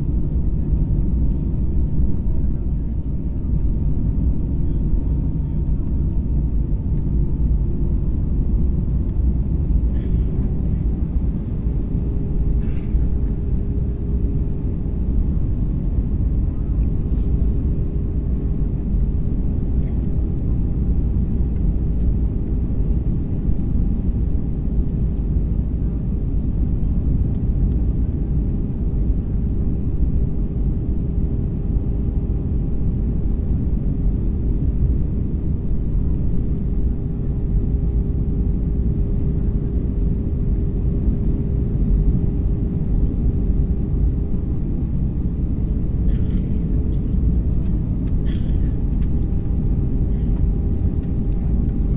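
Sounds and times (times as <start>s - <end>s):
airliner cabin engine rumble: 0.0s - 51.9s
faint constant hum: 0.0s - 51.9s.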